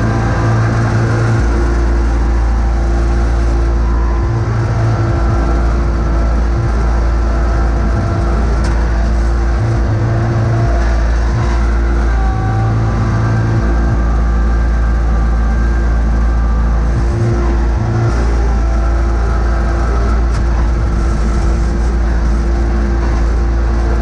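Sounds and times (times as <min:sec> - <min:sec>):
garden tractor engine running: 0:00.0 - 0:24.0
plow blade pushing snow: 0:00.0 - 0:24.0.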